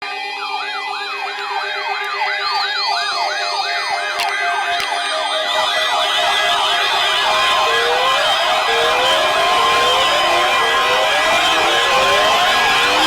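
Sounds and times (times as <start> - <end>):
higher siren: 0.0 - 13.0
weather radio alarm whooping: 0.0 - 13.0.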